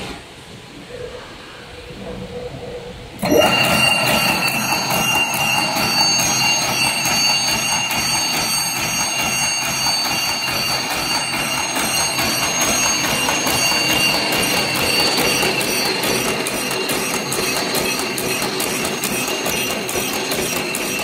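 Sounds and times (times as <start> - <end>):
high machine whine: 0.0 - 21.0
machine gear and chain clatter: 3.3 - 21.0.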